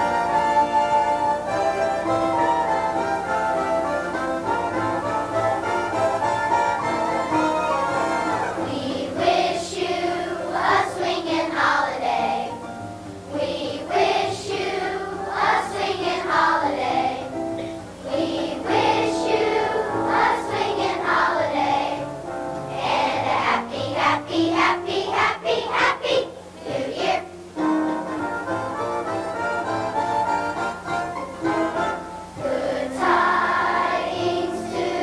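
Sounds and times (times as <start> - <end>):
children's choir singing: 0.0 - 12.7, 13.3 - 35.0.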